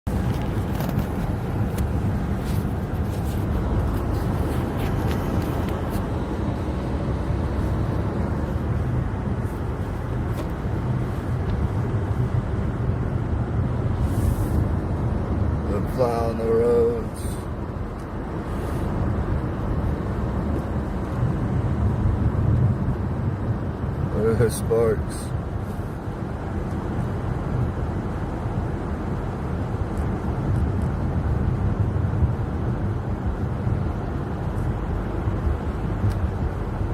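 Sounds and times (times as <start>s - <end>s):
car driving rumble: 0.0s - 36.9s.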